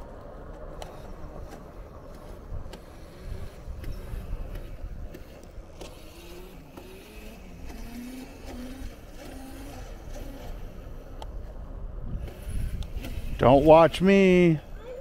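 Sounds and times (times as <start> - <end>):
wind and road rumble: 0.0 - 15.0
electric motor whine: 0.8 - 14.4.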